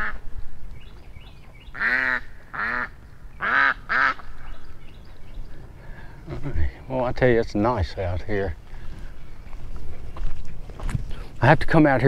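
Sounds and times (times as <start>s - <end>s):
ducks and geese calling: 0.0s - 11.3s.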